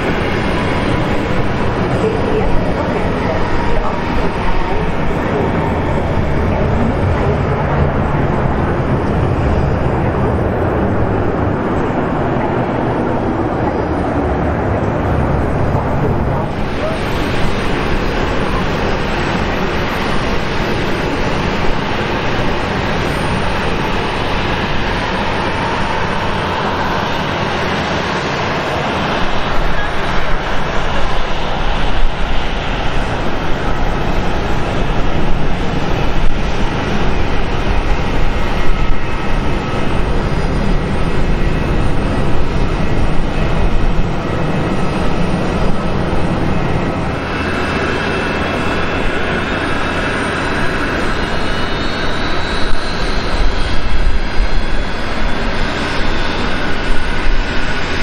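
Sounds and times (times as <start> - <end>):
jet engines rushing and rumbling: 0.0 - 58.0.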